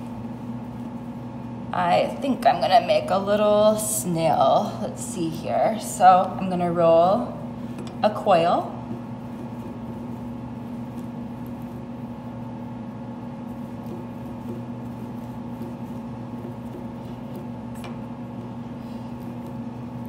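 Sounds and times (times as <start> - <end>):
hands rolling clay: 0.0 - 6.7, 7.6 - 20.0
mechanical hum of equipment: 0.0 - 20.0.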